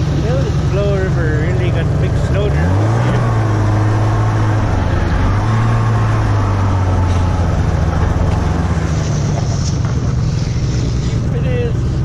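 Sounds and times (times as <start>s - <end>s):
snowmobile engine droning: 0.0s - 12.0s.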